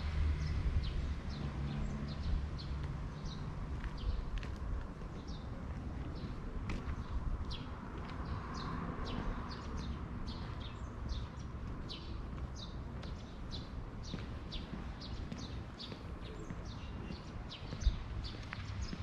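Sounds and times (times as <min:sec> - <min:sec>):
small birds chirping: 0:00.4 - 0:19.0.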